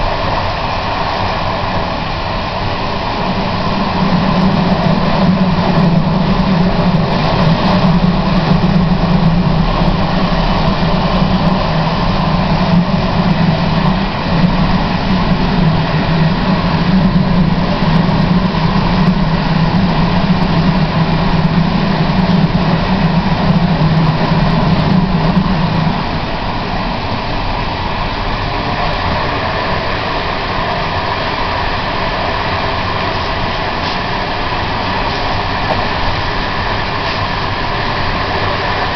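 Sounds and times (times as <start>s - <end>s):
metro train rumbling: 0.0s - 38.9s
strong low hum: 0.0s - 38.9s.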